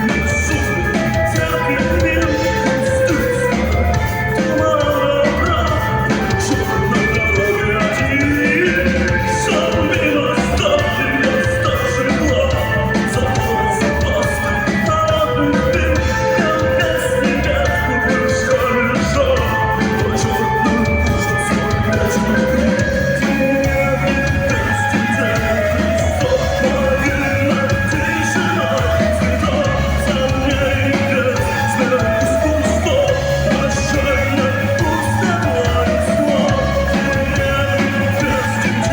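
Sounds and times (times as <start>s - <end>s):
drum kit: 0.0s - 38.9s
rock band playing live: 0.0s - 38.9s.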